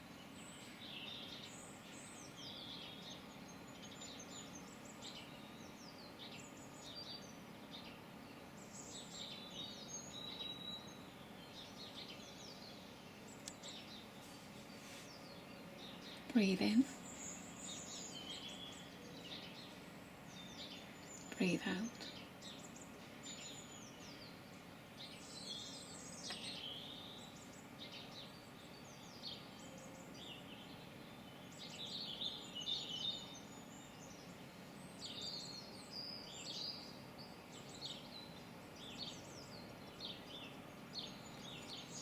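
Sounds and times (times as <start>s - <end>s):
faint background hiss: 0.0s - 42.0s
songbirds chirping and trilling: 0.0s - 42.0s.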